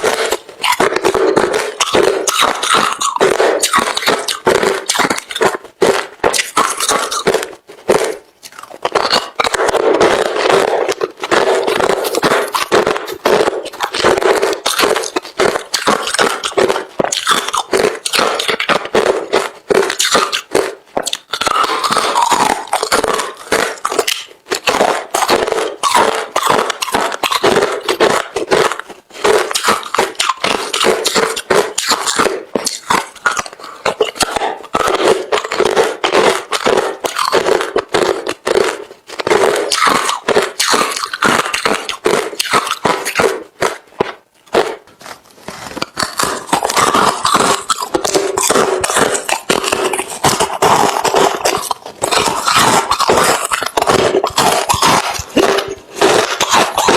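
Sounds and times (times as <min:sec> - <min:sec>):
person chewing ice: 0:00.0 - 0:56.9.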